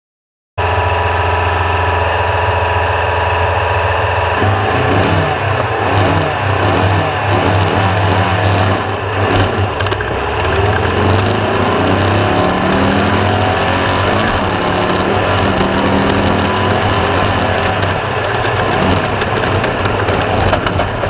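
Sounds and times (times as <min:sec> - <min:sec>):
buggy engine revving: 0:00.6 - 0:21.0.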